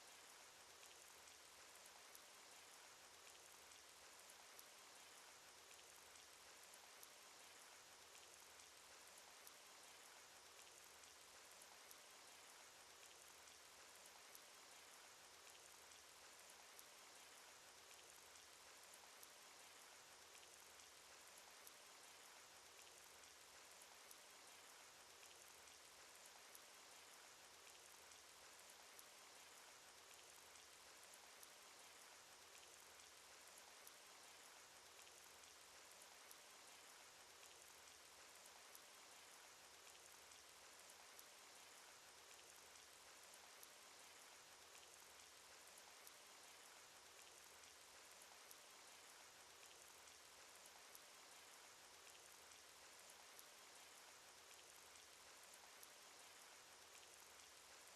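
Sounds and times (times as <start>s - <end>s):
rain with droplet ticks: 0.0s - 57.9s.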